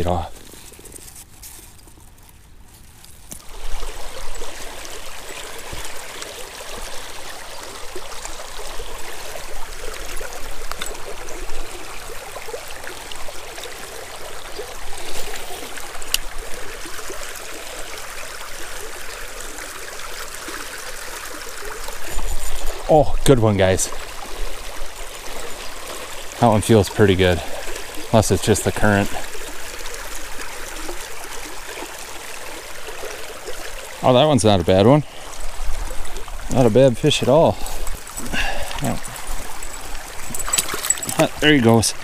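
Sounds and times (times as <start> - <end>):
stream running over rocks: 0.0 - 42.0.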